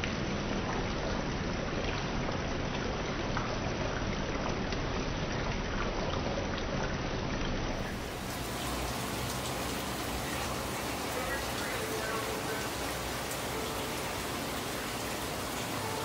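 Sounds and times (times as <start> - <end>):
fountain water splashing: 0.0 - 16.0.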